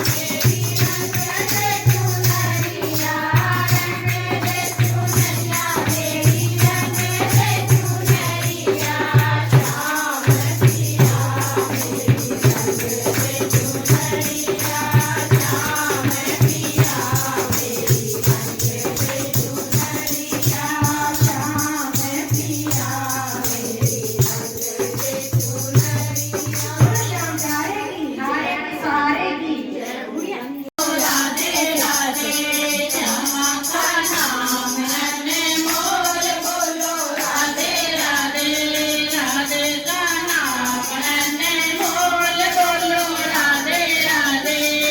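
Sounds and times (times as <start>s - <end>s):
jingling hand percussion: 0.0s - 44.9s
voices singing: 0.0s - 44.9s.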